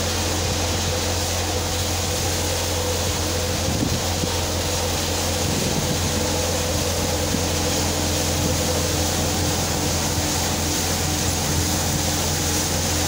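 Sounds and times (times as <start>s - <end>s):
thresher machine drone: 0.0s - 13.0s.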